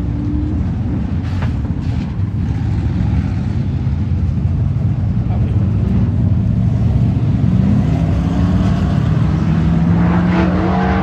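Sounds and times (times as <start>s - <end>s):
race car engines rumbling: 0.0s - 11.0s.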